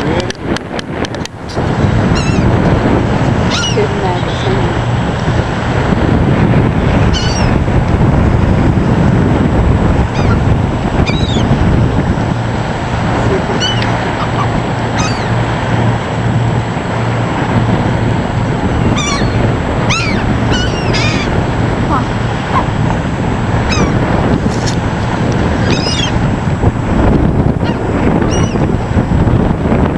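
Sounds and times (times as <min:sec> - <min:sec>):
low rumble: 0:00.0 - 0:29.9
gulls crying: 0:01.6 - 0:07.8, 0:09.7 - 0:29.5.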